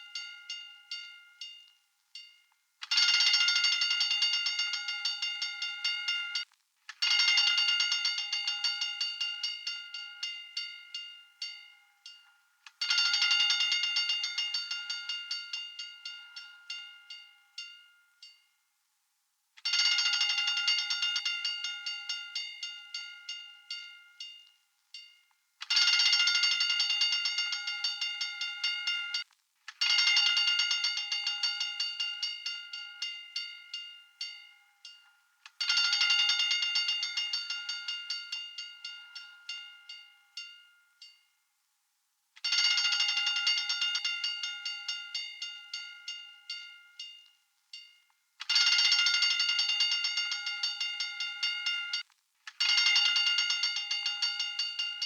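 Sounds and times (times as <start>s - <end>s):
fire alarm bell clanging: 0.0s - 18.4s, 19.7s - 29.2s, 29.8s - 41.1s, 47.8s - 52.0s, 52.6s - 55.0s.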